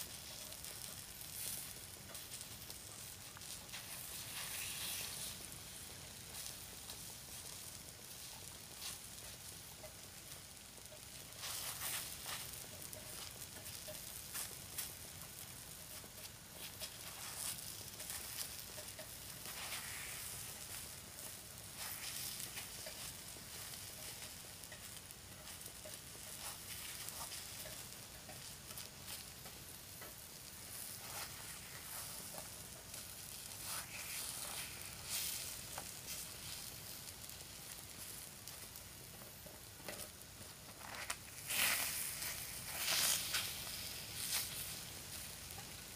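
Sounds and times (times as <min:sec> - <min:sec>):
batter sizzling on hot plate: 0:00.0 - 0:45.9.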